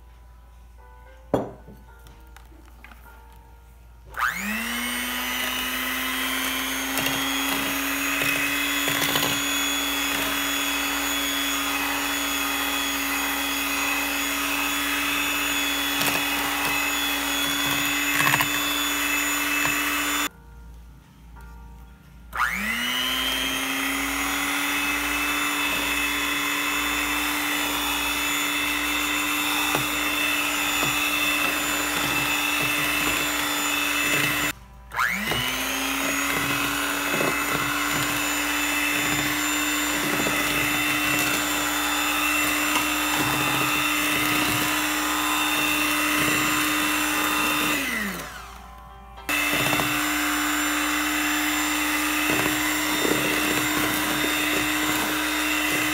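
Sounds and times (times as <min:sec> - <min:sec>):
electric hand mixer running: 0:04.2 - 0:20.3, 0:22.4 - 0:55.9.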